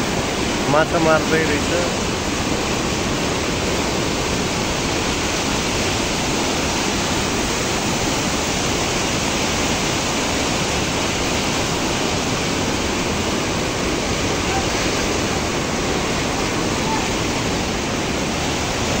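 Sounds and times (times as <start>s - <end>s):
river in flood rushing: 0.0s - 19.0s.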